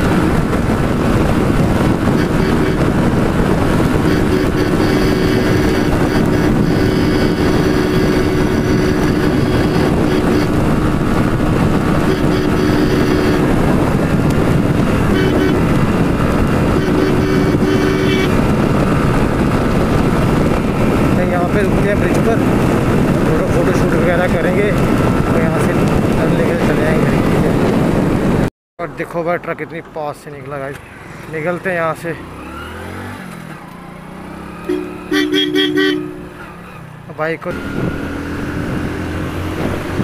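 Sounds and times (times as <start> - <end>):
motorcycle engine drone: 0.0 - 28.5, 30.8 - 40.0
wind rushing over microphone: 0.0 - 28.5, 30.9 - 40.0.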